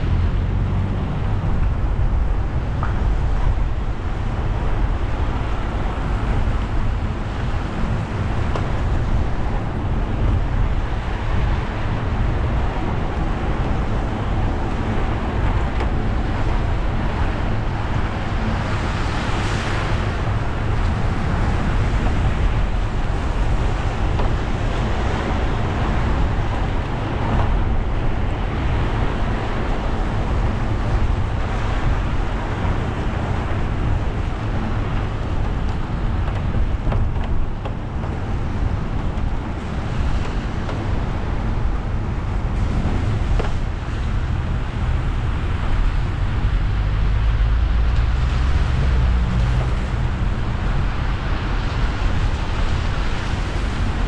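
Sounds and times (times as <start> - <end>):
low engine rumble: 0.0 - 54.0
tyres on wet road: 0.0 - 54.0.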